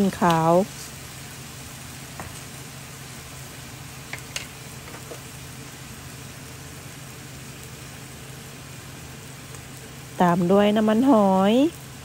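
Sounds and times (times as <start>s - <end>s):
pork sizzling in frying pan: 0.0s - 12.0s.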